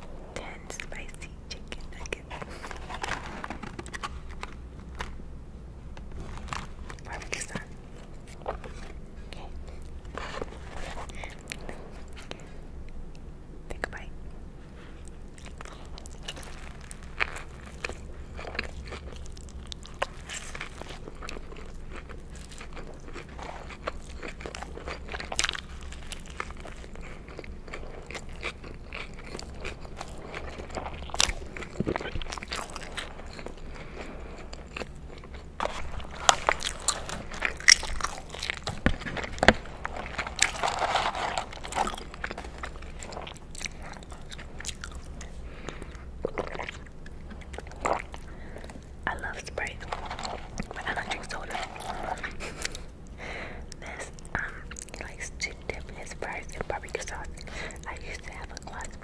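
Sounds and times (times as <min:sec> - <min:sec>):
crisp crunches: 0:00.7 - 0:05.2, 0:05.9 - 0:12.6, 0:14.9 - 0:59.0
biting and chewing burger: 0:01.7 - 0:05.3, 0:05.9 - 0:13.2, 0:14.7 - 0:59.0.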